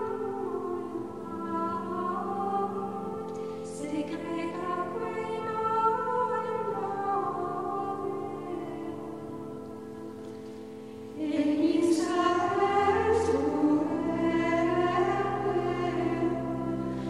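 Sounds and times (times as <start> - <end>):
choir-like singing: 0.0 - 10.2, 11.2 - 17.0.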